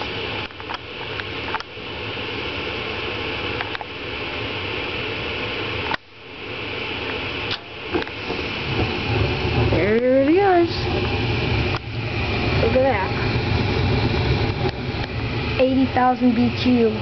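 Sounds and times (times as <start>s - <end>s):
furnace fan rushing: 0.0s - 17.0s.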